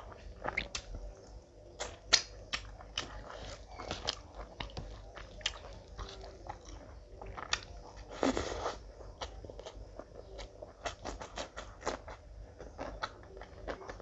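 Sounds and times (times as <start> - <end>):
chewing with wet mouth smacks: 0.0 - 14.0.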